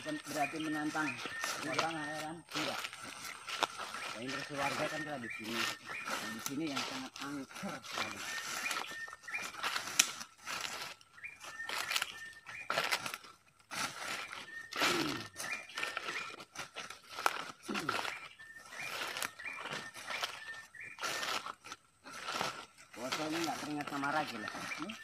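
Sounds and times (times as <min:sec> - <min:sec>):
footsteps crunching through dry leaves: 0:00.0 - 0:25.0.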